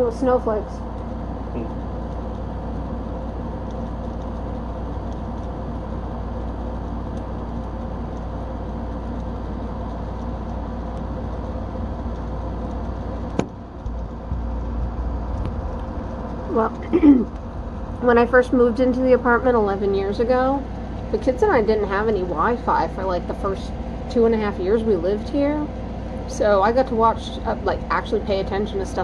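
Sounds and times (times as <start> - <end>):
faint even hum: 0.0 - 29.0
low outdoor rumble: 0.0 - 29.0.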